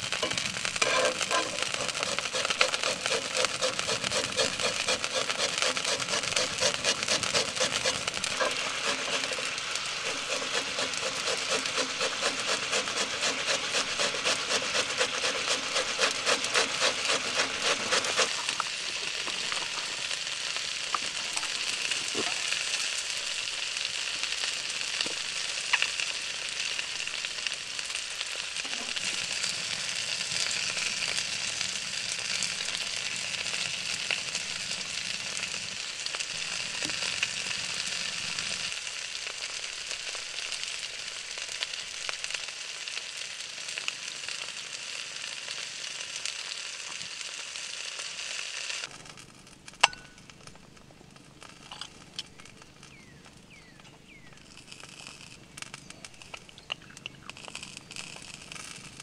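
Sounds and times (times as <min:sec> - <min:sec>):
food sizzling in a skillet: 0:00.0 - 0:48.9.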